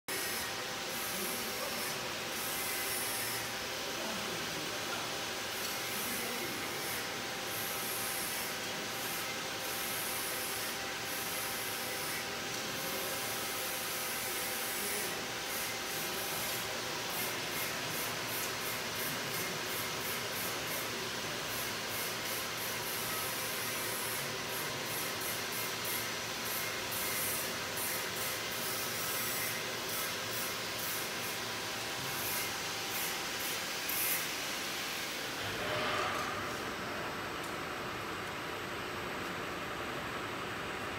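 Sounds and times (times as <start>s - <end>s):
grinding machine hissing and humming: 0.1s - 37.2s.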